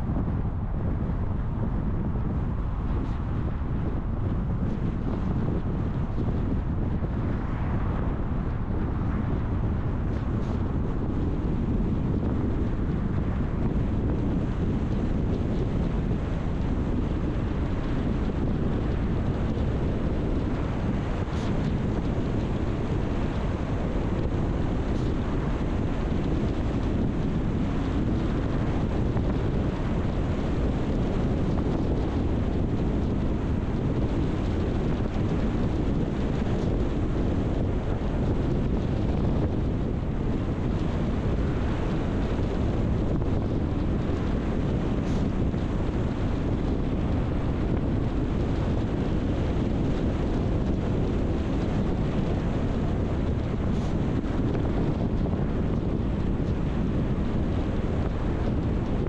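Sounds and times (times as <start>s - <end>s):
car tyre and road noise: 0.0s - 59.0s.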